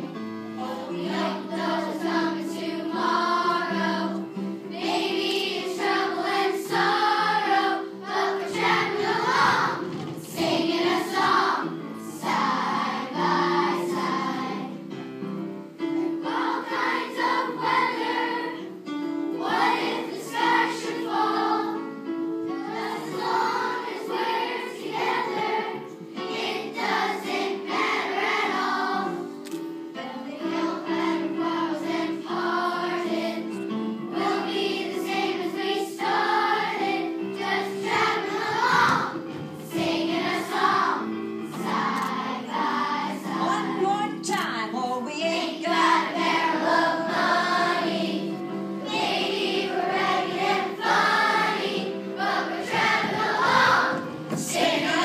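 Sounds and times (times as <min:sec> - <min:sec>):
children's choir singing: 0:00.0 - 0:44.4, 0:45.0 - 0:55.0
instrumental accompaniment: 0:00.0 - 0:55.0.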